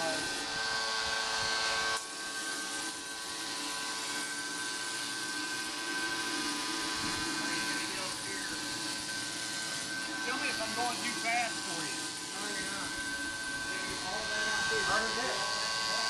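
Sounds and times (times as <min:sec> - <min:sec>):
motor whine: 0:00.0 - 0:16.0.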